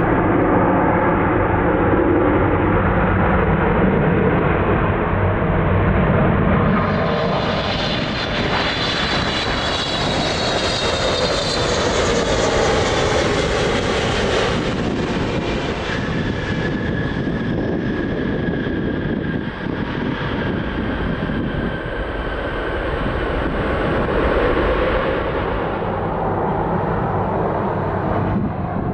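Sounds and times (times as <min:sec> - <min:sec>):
jet engines passing close: 0:00.0 - 0:28.9.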